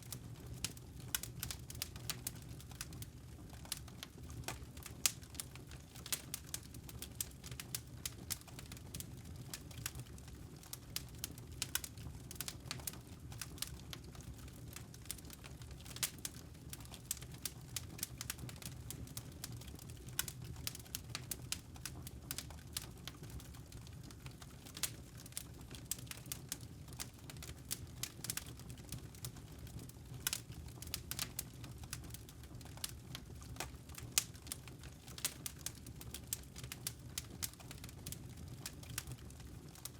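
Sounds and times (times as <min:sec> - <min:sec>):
logs crackling and popping: 0:00.0 - 0:39.9
wood fire crackling: 0:00.0 - 0:39.9.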